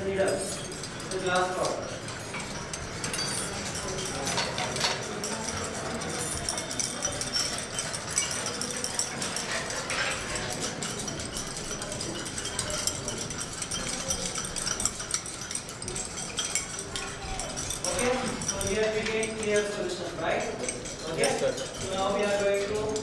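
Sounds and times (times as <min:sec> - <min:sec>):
glass rods clinking on beakers: 0:00.0 - 0:23.0.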